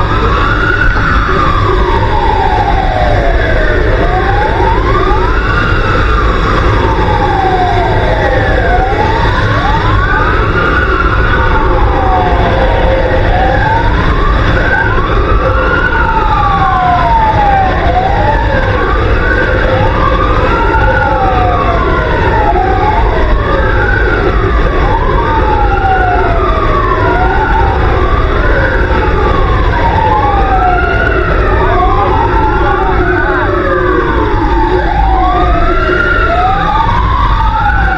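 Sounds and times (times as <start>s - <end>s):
fire engine sirens wailing: 0.0s - 37.9s
truck rumbling: 0.0s - 37.9s.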